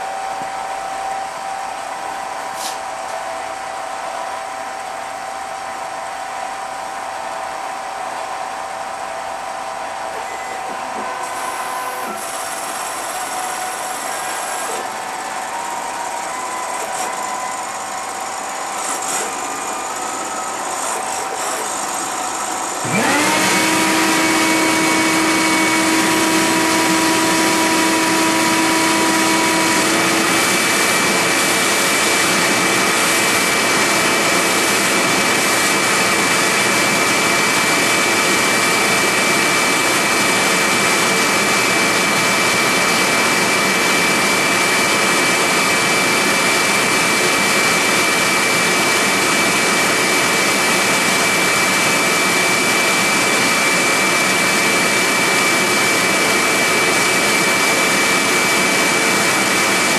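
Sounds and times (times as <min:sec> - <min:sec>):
milling machine high whine: 0:00.0 - 0:59.9.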